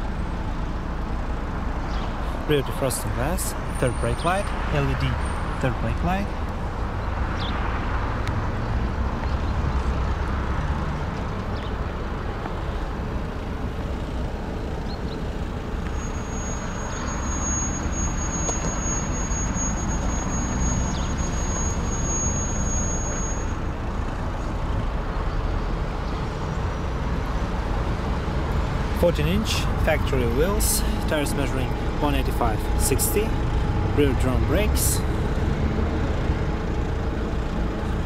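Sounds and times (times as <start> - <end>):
low motor vehicle rumble: 0.0 - 38.0.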